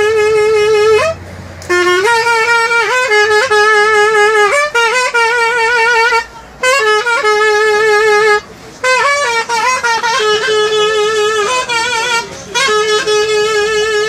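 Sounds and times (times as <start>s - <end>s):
zurna folk melody: 0.0s - 14.0s.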